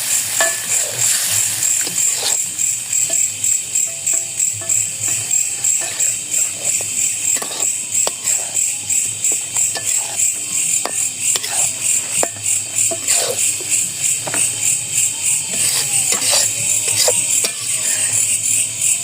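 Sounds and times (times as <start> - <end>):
insects buzzing in pulses: 0.0 - 19.0.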